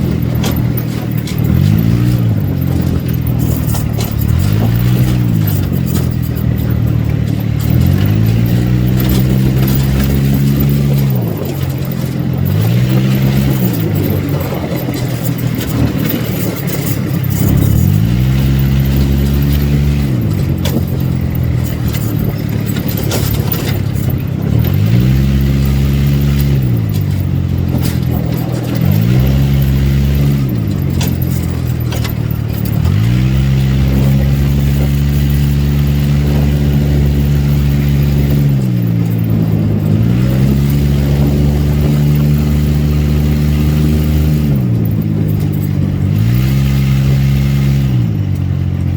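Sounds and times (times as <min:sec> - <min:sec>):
quad bike engine revving: 0:00.0 - 0:48.9.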